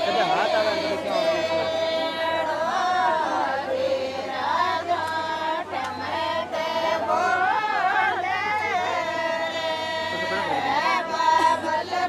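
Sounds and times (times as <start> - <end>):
women singing folk song together: 0.0 - 12.0.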